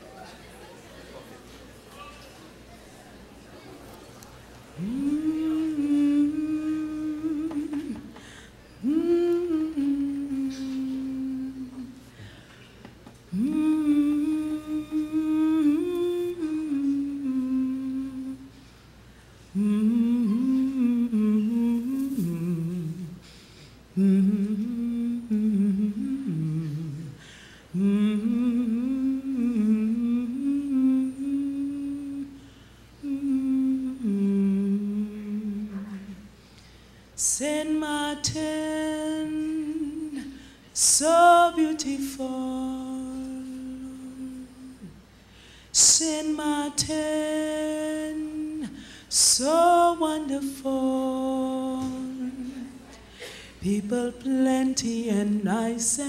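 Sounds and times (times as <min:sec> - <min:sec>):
woman singing wordless melody: 0:04.8 - 0:12.2, 0:13.3 - 0:18.7, 0:19.5 - 0:23.3, 0:23.9 - 0:36.4, 0:37.2 - 0:45.1, 0:45.7 - 0:53.0, 0:53.6 - 0:56.0.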